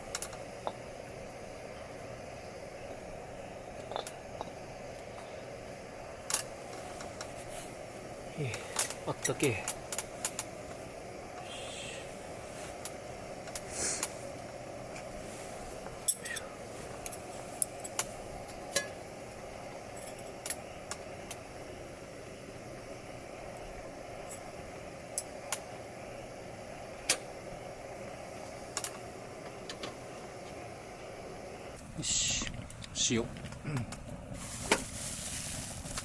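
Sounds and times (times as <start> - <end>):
background hiss: 0.0 - 36.0
campfire crackling and popping: 0.0 - 36.0.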